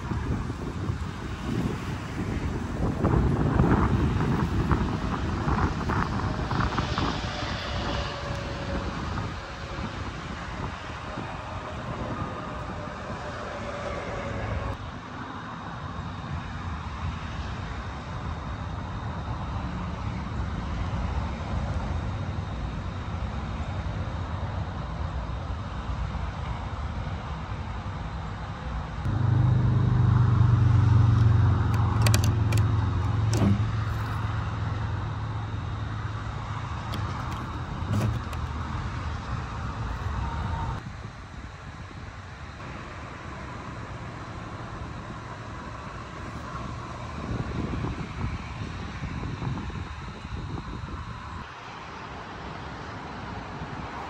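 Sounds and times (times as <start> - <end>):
low engine drone: 0.0 - 26.4, 27.4 - 49.2
traffic noise: 0.0 - 54.0.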